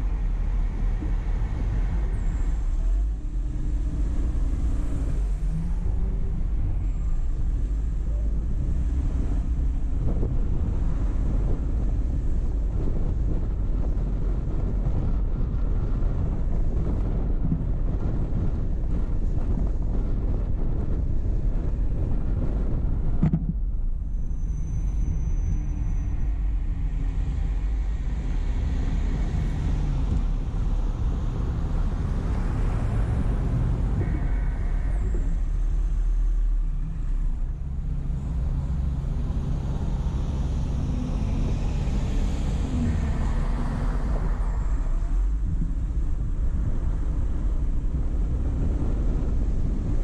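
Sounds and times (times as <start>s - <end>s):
car road and engine rumble: 0.0s - 50.0s
wind noise on microphone: 0.0s - 50.0s.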